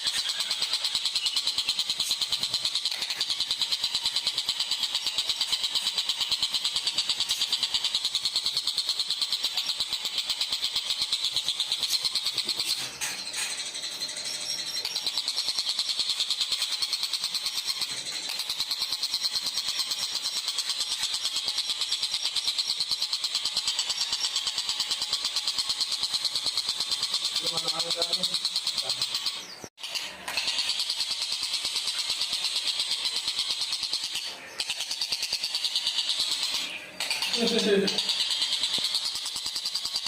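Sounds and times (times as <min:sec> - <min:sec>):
bird chattering call: 0:00.0 - 0:40.0.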